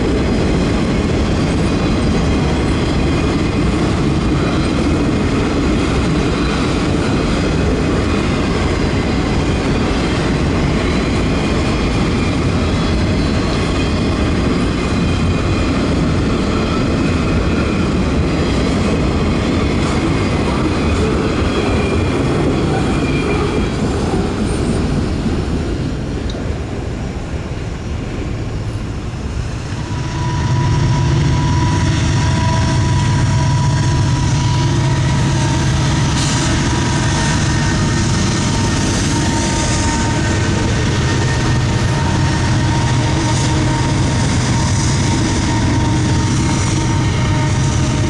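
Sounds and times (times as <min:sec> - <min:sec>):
train rail rumble: 0:00.0 - 0:48.0.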